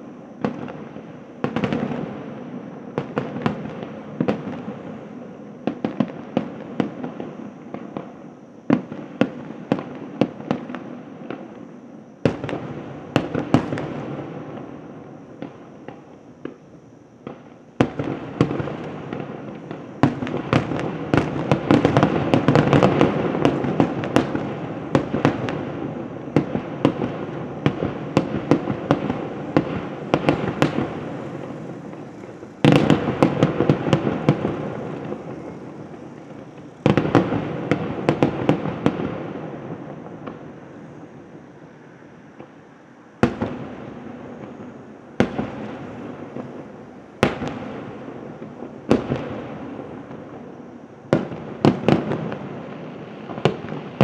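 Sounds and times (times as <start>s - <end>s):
fireworks bangs: 0.0s - 54.0s
fireworks crackle: 0.0s - 54.0s.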